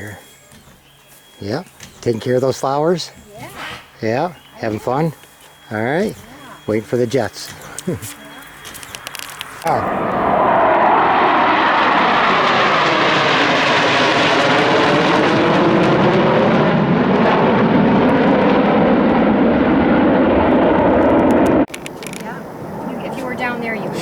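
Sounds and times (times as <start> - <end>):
jet aircraft passing overhead: 1.0 - 24.0.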